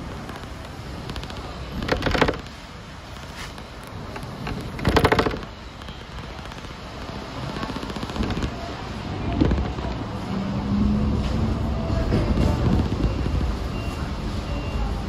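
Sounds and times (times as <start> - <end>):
fast loud tram clatter: 0.0 - 14.9
tram running noise: 0.0 - 15.0.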